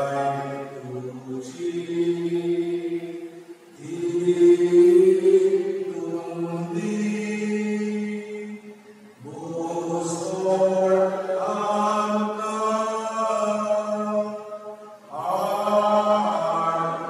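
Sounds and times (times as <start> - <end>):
person singing slow chant: 0.0 - 17.0.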